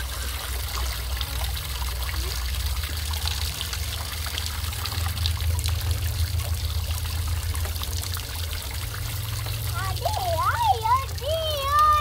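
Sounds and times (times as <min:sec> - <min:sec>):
water drips ticking: 0:00.0 - 0:12.0
water spraying and pattering: 0:00.0 - 0:12.0.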